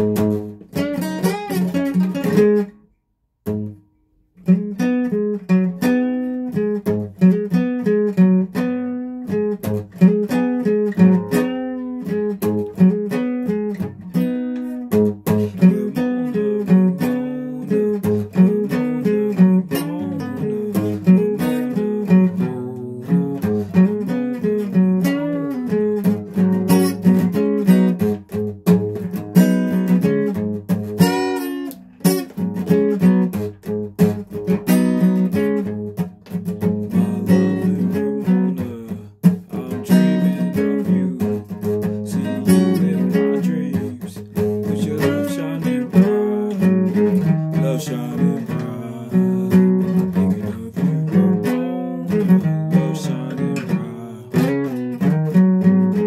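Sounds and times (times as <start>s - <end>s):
guitar playing: 0.0s - 56.0s.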